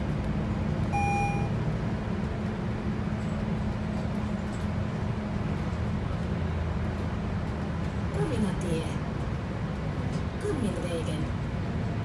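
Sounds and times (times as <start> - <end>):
diesel bus engine drone: 0.0 - 12.0
road noise: 0.0 - 12.0.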